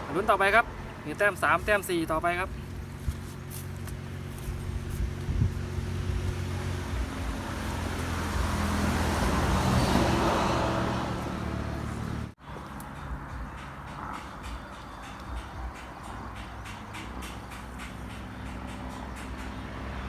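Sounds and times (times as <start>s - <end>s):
motor vehicle passing: 0.0s - 20.0s.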